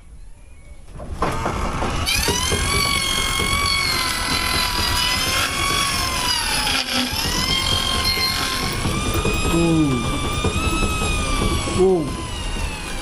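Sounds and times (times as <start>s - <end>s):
rattling machinery rumble: 0.9s - 13.0s
table saw blade whine: 1.8s - 13.0s.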